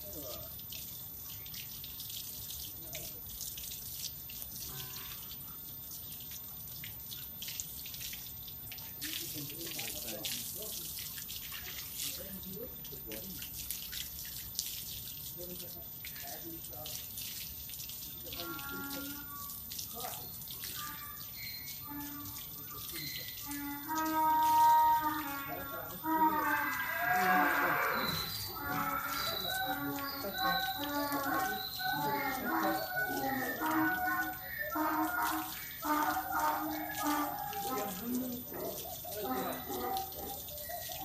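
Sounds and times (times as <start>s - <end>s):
shower water spraying and splashing: 0.0s - 41.0s.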